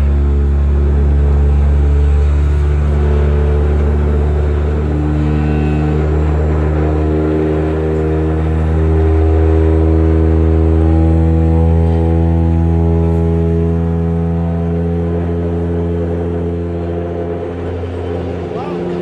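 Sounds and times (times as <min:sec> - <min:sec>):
vibrator low hum on formwork: 0:00.0 - 0:19.0.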